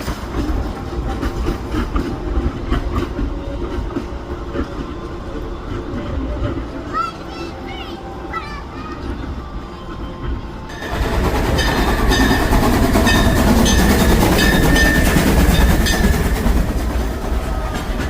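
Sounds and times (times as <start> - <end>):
wheels clacking over rail joints: 0.0 - 7.8, 8.7 - 18.0
steam train rumble: 0.0 - 18.0.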